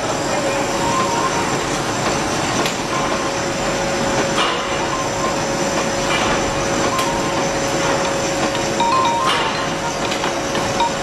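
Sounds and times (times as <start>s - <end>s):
conveyor machine running: 0.0s - 11.0s.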